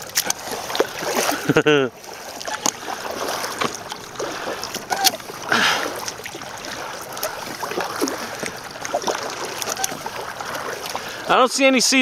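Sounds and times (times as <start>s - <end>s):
kayak paddle splashing water: 0.0s - 12.0s.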